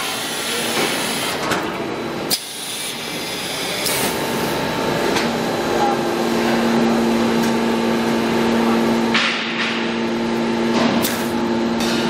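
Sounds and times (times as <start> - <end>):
machinery hum and whine: 0.0 - 12.0.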